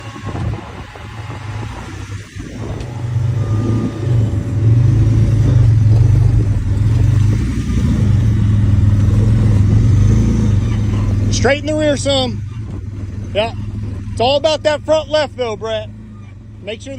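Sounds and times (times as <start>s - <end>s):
engine running under load: 0.0s - 16.9s.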